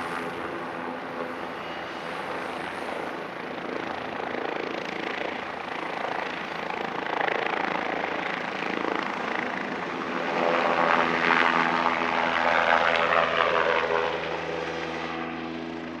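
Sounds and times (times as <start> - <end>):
helicopter turbine hum and rotor: 0.0 - 16.0.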